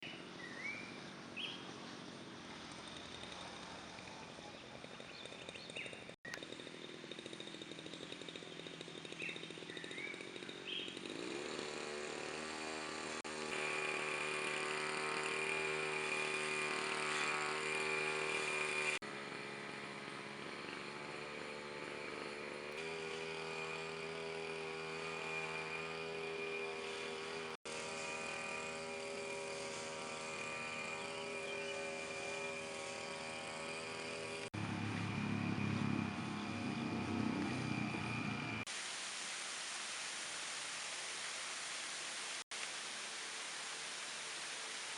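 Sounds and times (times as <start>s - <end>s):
engine running steadily: 0.1s - 38.7s.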